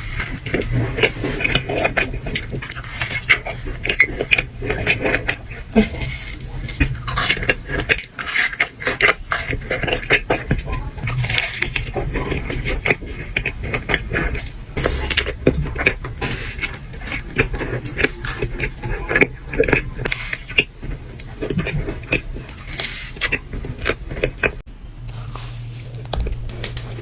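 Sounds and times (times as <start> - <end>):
chewing a cookie: 0.0 - 27.0.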